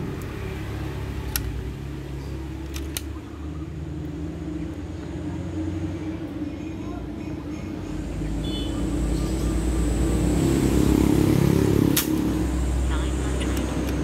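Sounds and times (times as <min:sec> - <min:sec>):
motor vehicle engine rumble: 0:00.0 - 0:14.0.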